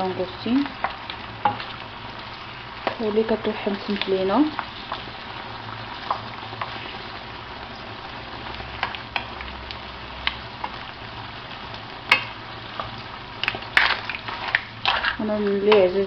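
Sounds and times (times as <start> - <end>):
shellfish sizzling in hot oil: 0.0 - 16.0.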